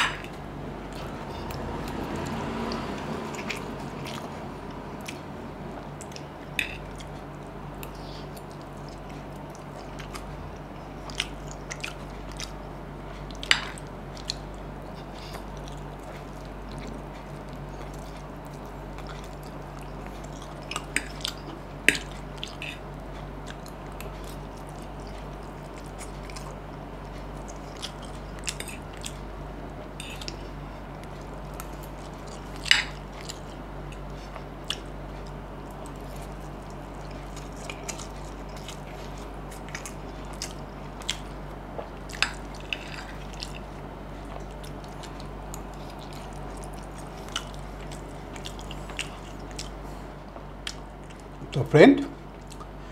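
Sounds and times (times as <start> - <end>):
person chewing noodles: 0.0 - 51.6, 52.2 - 52.9
steady low hum: 0.0 - 52.9.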